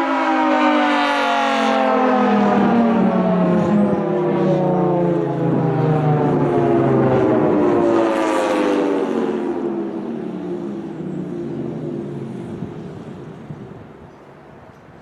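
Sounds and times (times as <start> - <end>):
warning siren winding down: 0.0 - 14.0.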